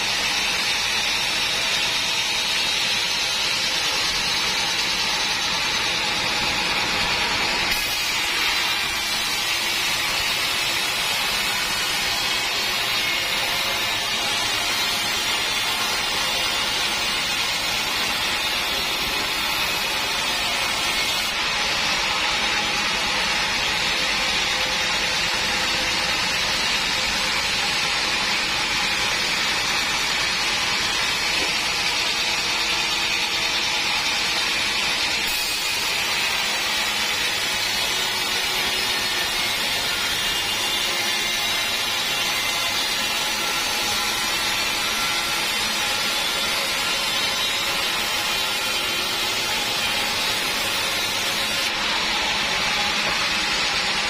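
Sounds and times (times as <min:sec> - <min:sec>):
band sawmill cutting log: 0:00.0 - 0:54.0.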